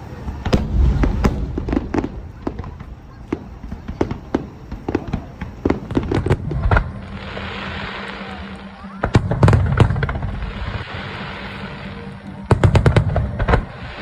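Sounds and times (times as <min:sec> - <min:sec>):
fireworks bangs: 0:00.0 - 0:14.0
hissing crackle: 0:00.0 - 0:14.0.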